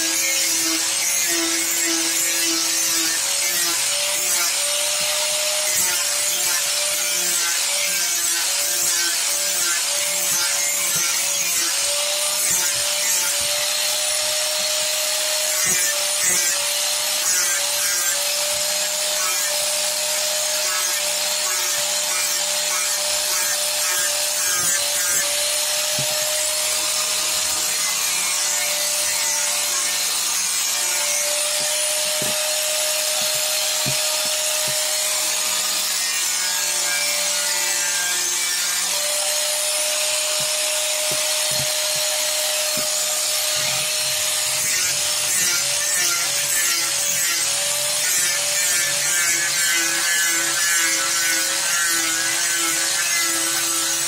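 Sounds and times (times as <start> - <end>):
angle grinder grinding wood: 0.0 - 54.0.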